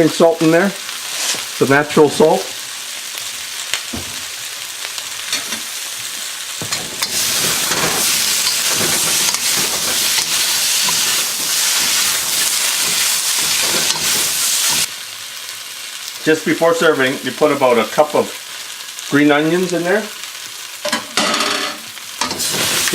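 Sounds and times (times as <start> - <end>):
food sizzling in a wok: 0.0 - 22.9.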